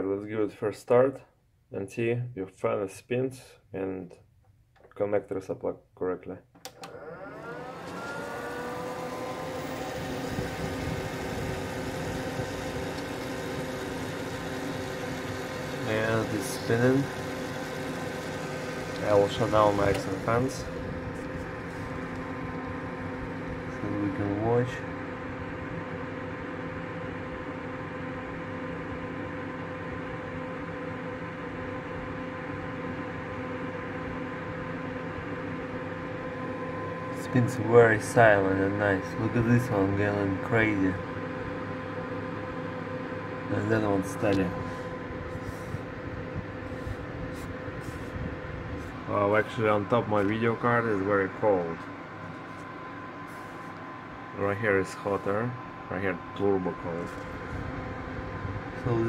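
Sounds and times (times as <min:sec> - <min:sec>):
computer fans whirring: 0:06.6 - 0:59.0.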